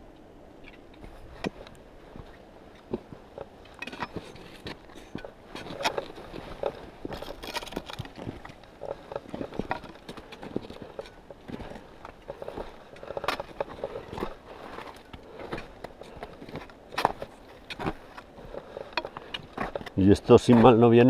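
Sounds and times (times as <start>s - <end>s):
boots scuffing over rock: 4.1s - 21.0s.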